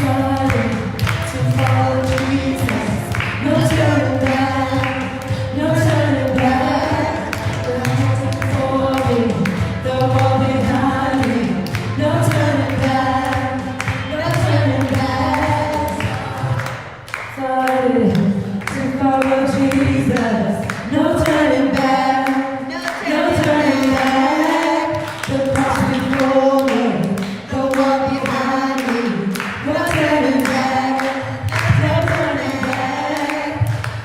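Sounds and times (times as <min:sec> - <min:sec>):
group singing worship song: 0:00.0 - 0:34.0
music: 0:00.0 - 0:34.0.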